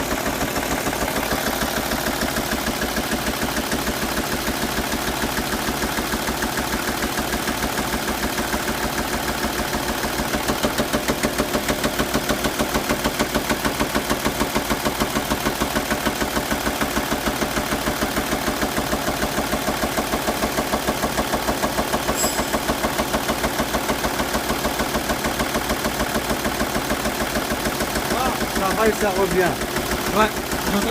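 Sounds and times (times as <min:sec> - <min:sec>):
diesel engine idling with clatter: 0:00.0 - 0:30.9.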